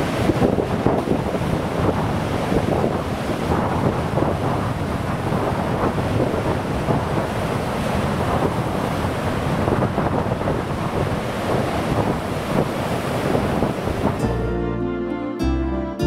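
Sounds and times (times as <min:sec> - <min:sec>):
wind buffeting microphone: 0:00.0 - 0:14.3
rough sea surf: 0:00.0 - 0:14.4.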